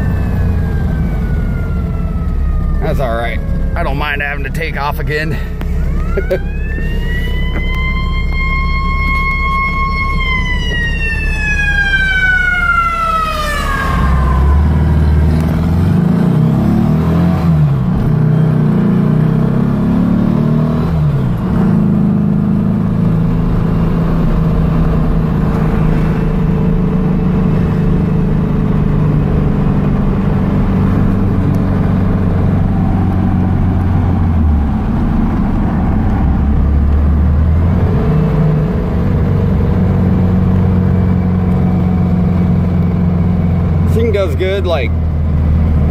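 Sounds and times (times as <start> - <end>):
car engine driven hard: 0.0 - 45.9.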